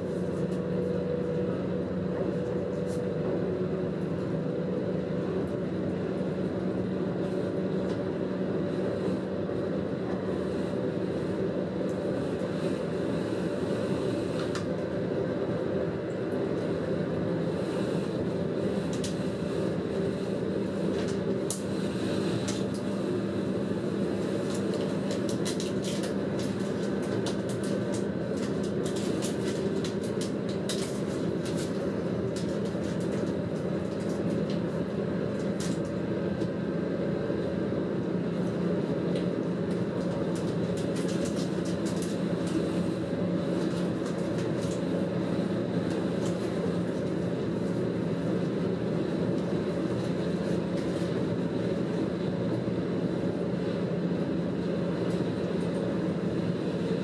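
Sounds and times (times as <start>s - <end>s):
diesel railcar engine hum: 0.0s - 57.0s.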